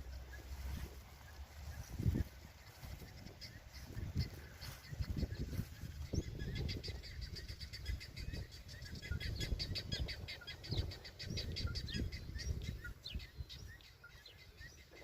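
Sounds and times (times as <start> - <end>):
young birds chirping: 0.0 - 15.0.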